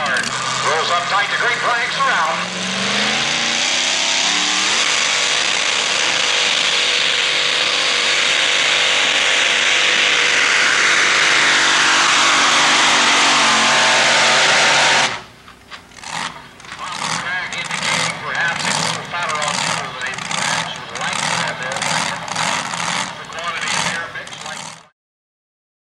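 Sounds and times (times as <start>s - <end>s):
truck engine at full throttle: 0.0s - 24.9s.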